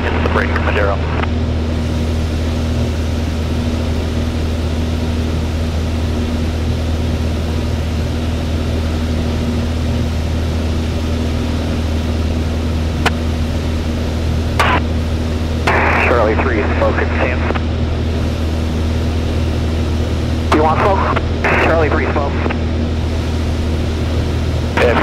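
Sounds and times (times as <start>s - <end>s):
airflow noise over canopy: 0.0s - 25.0s
propeller aircraft engine droning: 0.0s - 25.0s.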